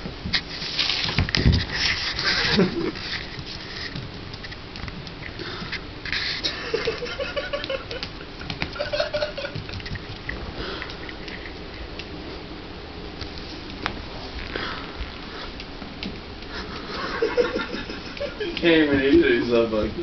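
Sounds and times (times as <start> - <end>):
puppy paws pattering on tile: 0.2 - 12.4, 13.2 - 19.3.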